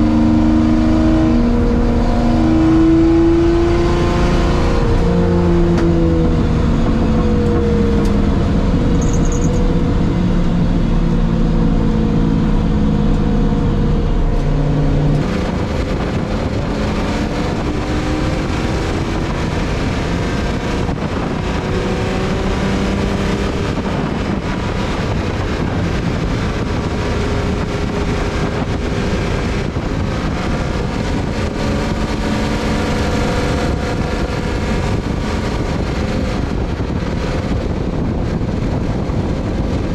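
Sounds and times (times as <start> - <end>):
race car engine running: 0.0 - 39.9
wind rush over microphone: 0.0 - 39.9.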